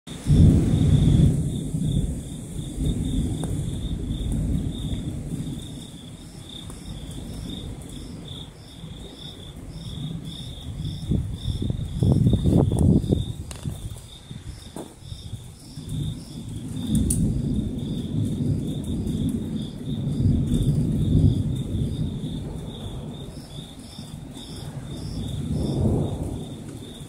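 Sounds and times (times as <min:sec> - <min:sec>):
crickets chirping: 0:00.1 - 0:27.0
thunder rumbling: 0:00.1 - 0:27.0.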